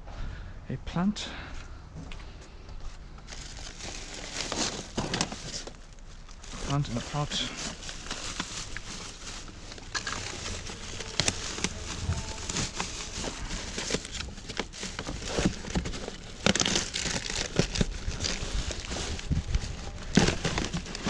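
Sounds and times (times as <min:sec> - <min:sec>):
plastic bin bags rustling: 0:03.2 - 0:21.0.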